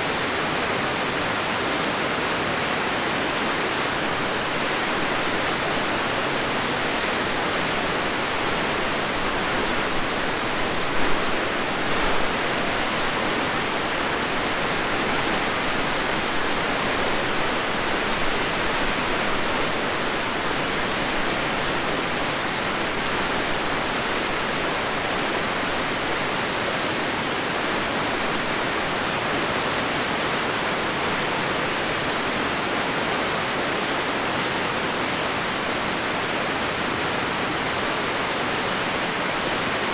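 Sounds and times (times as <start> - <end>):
river water rushing over falls: 0.0 - 39.9.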